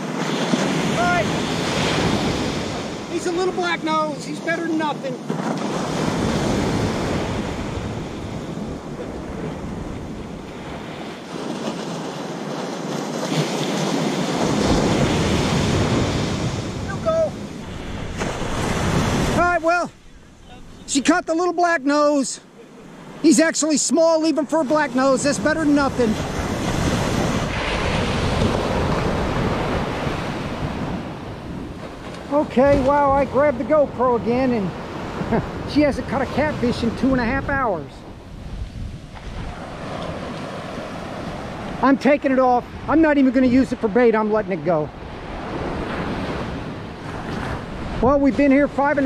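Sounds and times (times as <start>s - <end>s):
ocean surf breaking: 0.0s - 49.0s
wind buffeting microphone: 5.4s - 21.5s, 24.8s - 49.0s.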